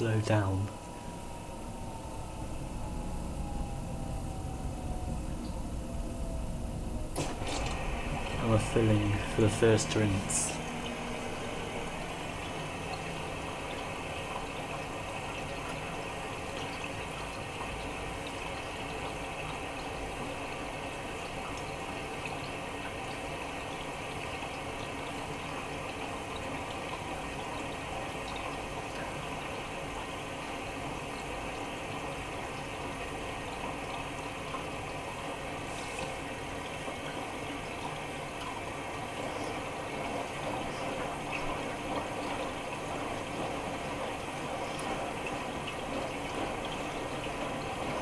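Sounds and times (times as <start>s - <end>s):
water rushing into washing machine: 0.0s - 48.0s.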